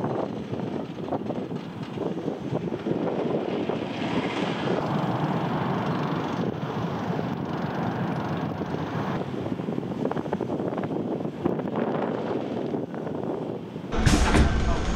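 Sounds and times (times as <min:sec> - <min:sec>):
roller coaster rumbling on track: 0:00.0 - 0:14.9.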